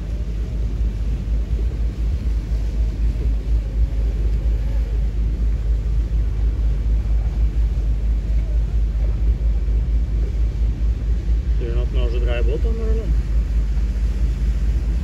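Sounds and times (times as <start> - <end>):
motor boat engine drone: 0.0 - 15.0
water noise: 0.0 - 15.0
wind: 0.0 - 15.0.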